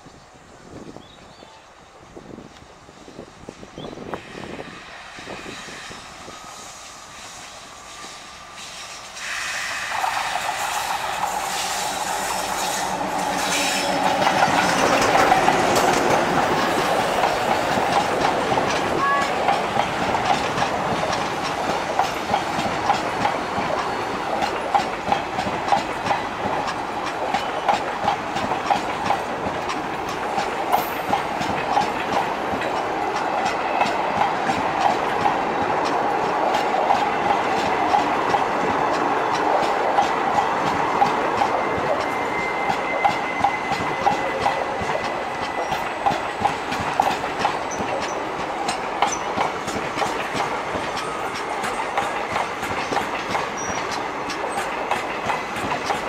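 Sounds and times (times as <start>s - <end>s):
diesel locomotive engine humming: 0.0s - 56.0s
train wheels rushing on rails: 0.0s - 56.0s.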